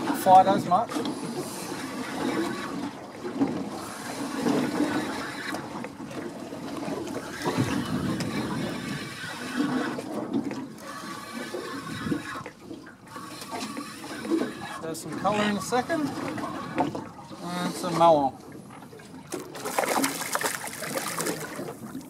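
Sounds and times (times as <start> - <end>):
water sloshing against boat: 0.0 - 22.0.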